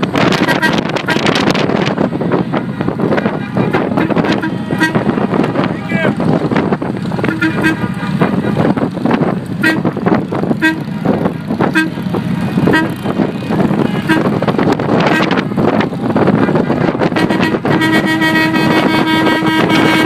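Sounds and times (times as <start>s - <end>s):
motorcycle engines running: 0.0s - 20.0s
long horn blast: 0.1s - 5.7s, 7.2s - 8.7s, 9.5s - 20.0s
vehicle horns tooting: 0.3s - 5.7s, 7.2s - 8.7s, 9.6s - 20.0s.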